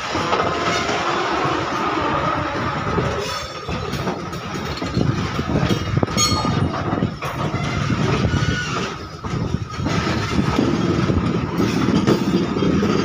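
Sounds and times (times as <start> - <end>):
wheels clattering over rail joints: 0.0 - 13.0.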